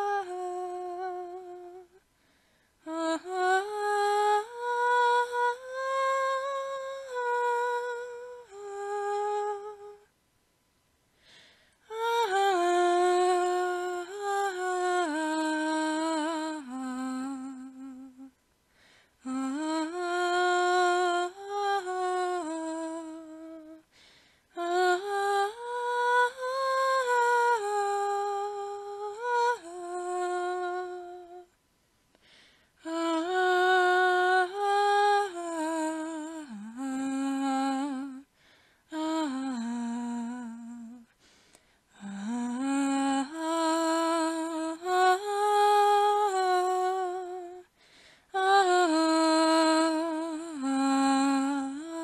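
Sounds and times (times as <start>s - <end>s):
person humming a slow tune: 0.0s - 2.0s, 2.8s - 10.1s, 11.8s - 18.4s, 19.2s - 23.9s, 24.5s - 31.6s, 32.8s - 38.3s, 38.9s - 41.2s, 41.9s - 52.0s.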